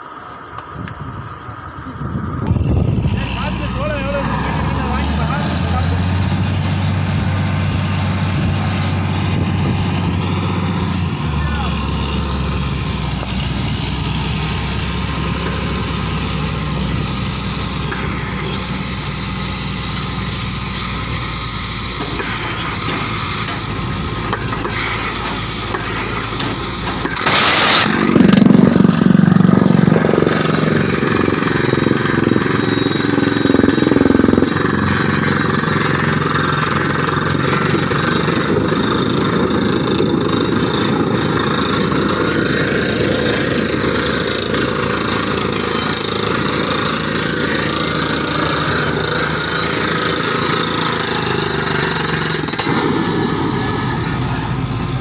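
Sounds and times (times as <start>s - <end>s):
hydraulic drilling rig running: 0.0s - 55.0s
loud rush of noise: 0.0s - 55.0s.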